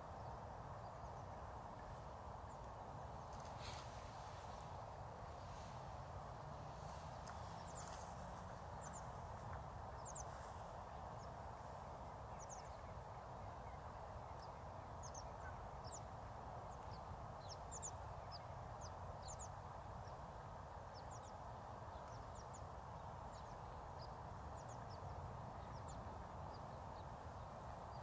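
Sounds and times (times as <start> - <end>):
small birds chirping: 0.2 - 28.0.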